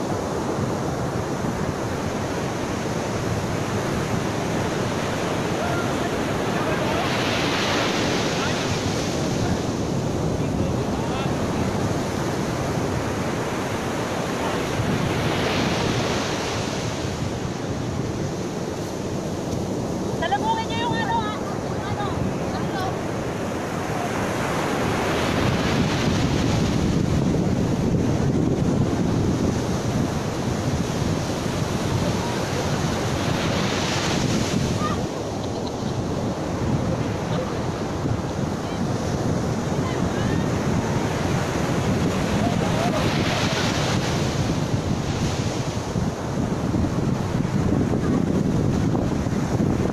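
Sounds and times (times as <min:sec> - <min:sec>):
ocean surf breaking: 0:00.0 - 0:49.9
wind buffeting microphone: 0:00.0 - 0:49.9.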